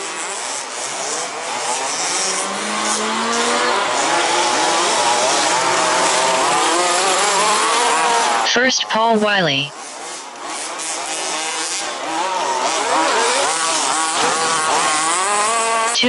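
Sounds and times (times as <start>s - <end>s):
rc buggy engines racing: 0.0s - 16.0s.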